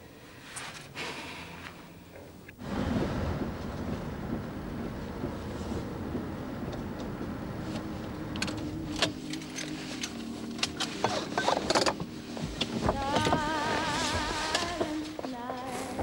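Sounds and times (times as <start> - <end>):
engine and road rumble: 0.0 - 16.0
windscreen wiper sweeping: 2.6 - 16.0.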